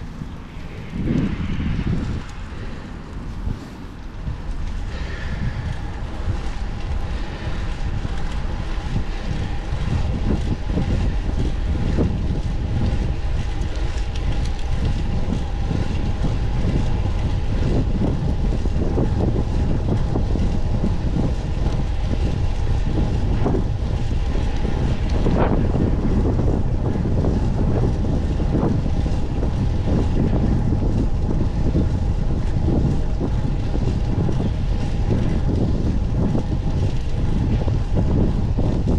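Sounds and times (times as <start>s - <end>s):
faint steady hum: 0.0s - 38.9s
wind rushing over microphone: 0.0s - 38.9s.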